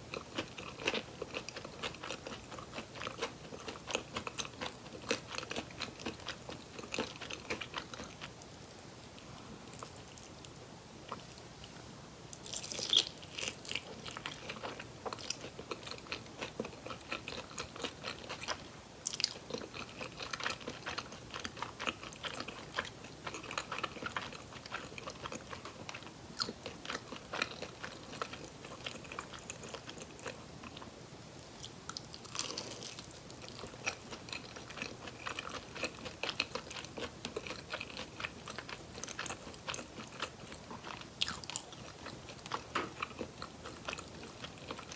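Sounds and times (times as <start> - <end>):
crunchy chewing: 0.0 - 8.9, 12.3 - 30.9, 31.5 - 44.9.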